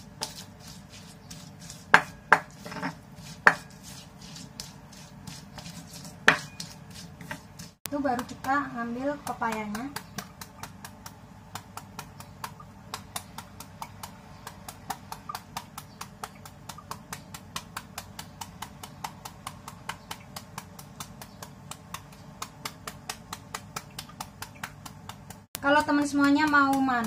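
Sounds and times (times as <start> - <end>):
knife chopping fruit: 0.0 - 27.0.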